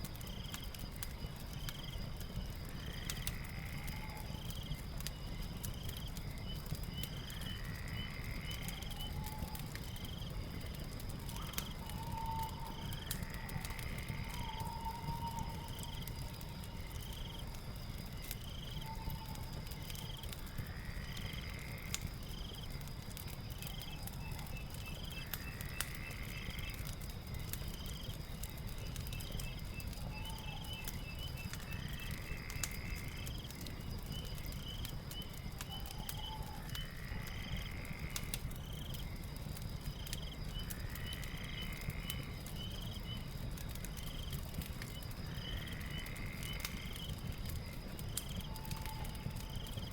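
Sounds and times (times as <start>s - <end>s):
fire crackling and rumbling: 0.0s - 49.9s
insects droning: 0.0s - 49.9s.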